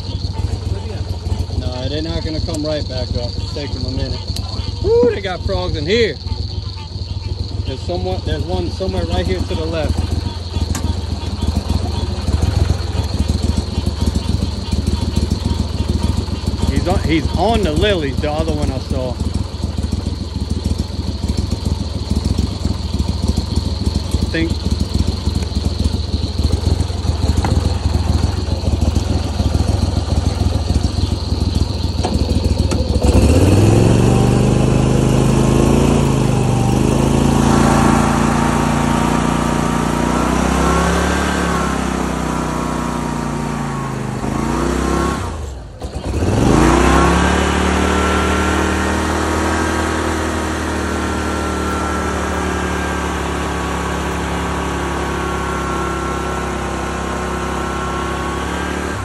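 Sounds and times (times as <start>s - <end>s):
mud motor engine revving: 0.0s - 59.0s.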